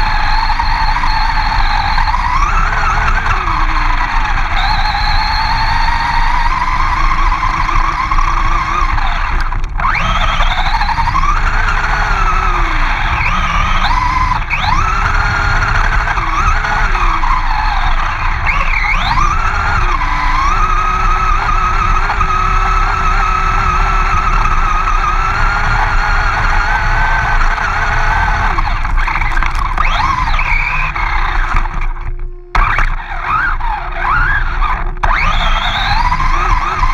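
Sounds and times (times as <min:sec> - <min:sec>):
rumble of wheels and wind: 0:00.0 - 0:36.9
toy truck motor whining: 0:00.0 - 0:36.9.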